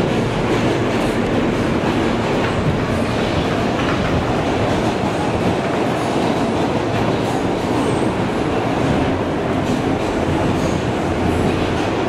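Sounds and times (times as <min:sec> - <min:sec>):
subway train wheels rumbling: 0:00.0 - 0:12.0
train clacking over track: 0:00.0 - 0:12.0.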